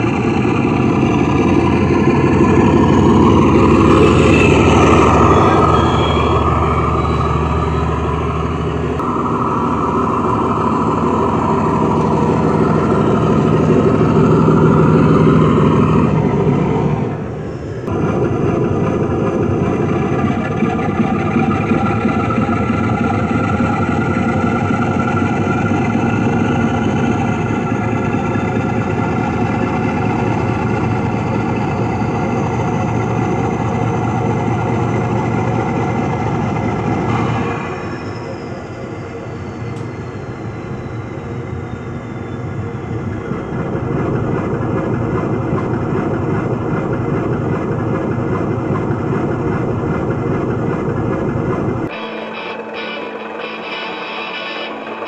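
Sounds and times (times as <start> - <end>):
diesel engine sound from speaker: 0.0 - 41.6, 42.2 - 55.0.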